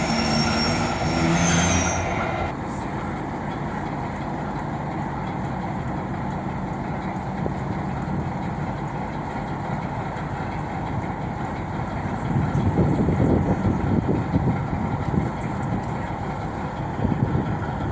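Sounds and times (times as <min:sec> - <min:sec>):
diesel locomotive engine humming: 0:00.0 - 0:17.9.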